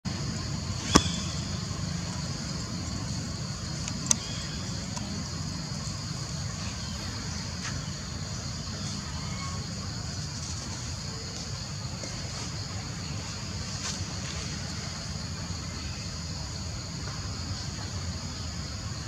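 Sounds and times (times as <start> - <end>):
distant road traffic rumble: 0.1 - 19.0.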